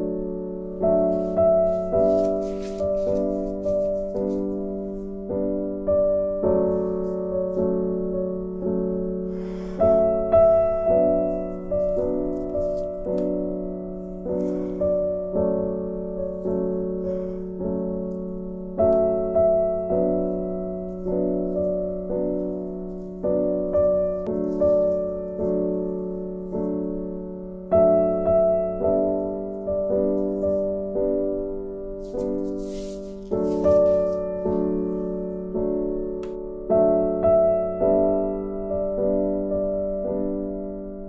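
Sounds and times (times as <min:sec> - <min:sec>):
slow piano music: 0:00.0 - 0:41.0.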